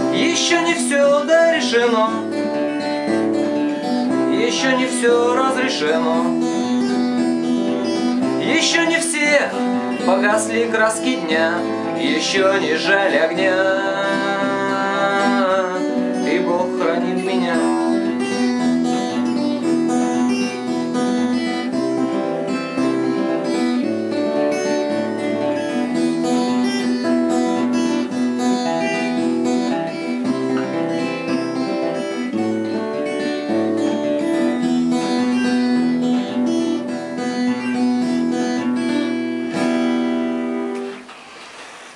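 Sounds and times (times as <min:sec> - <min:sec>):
acoustic guitar fingerpicking: 0:00.0 - 0:41.9.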